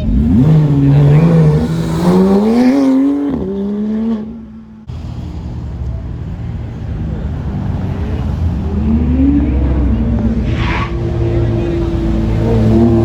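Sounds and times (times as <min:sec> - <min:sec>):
car engine accelerating hard: 0:00.0 - 0:04.8, 0:05.8 - 0:13.0
low engine rumble: 0:00.0 - 0:13.0.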